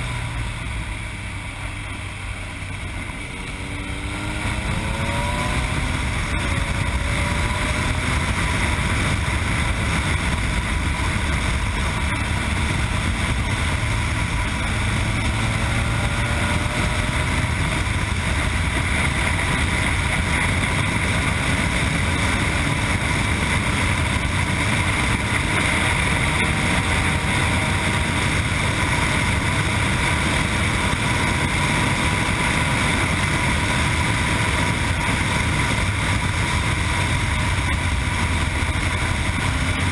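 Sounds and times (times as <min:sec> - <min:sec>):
motorcycle engine at speed: 0:00.0 - 0:39.9
wind noise on microphone: 0:02.7 - 0:39.9.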